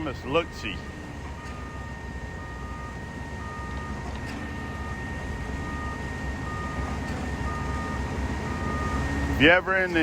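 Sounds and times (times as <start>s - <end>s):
diesel engines rumbling: 0.0s - 10.0s
backup alarm beeping: 1.3s - 9.5s.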